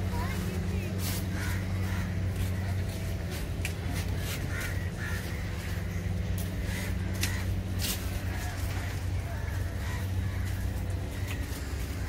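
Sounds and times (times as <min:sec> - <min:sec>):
steady low hum: 0:00.0 - 0:12.0
crows cawing: 0:00.1 - 0:12.0.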